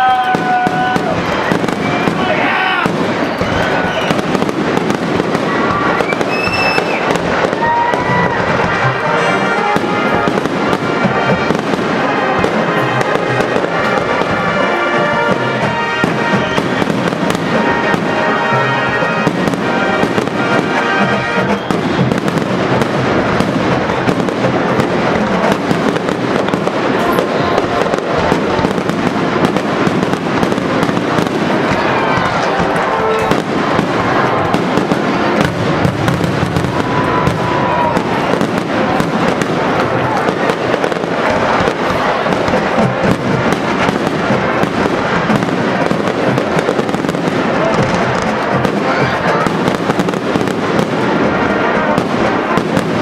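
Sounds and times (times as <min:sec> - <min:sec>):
fireworks crackles and bangs: 0:00.0 - 0:53.0
whistling fireworks: 0:00.0 - 0:53.0.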